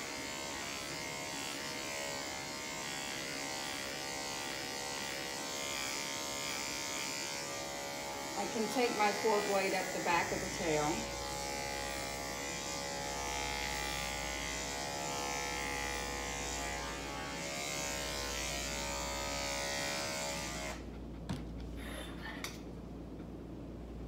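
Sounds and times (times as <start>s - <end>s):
dog clipper buzzing: 0.0s - 21.0s.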